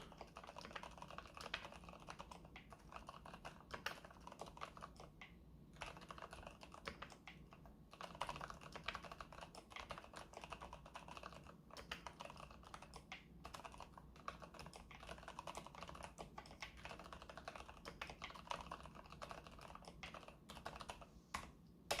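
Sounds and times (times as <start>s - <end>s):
muffled mechanical keyboard typing: 0.0s - 22.0s.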